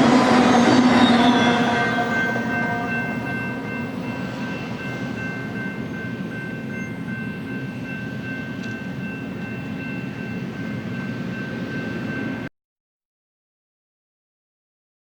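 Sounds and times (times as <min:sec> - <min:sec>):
freight train rumbling on rails: 0:00.0 - 0:12.5.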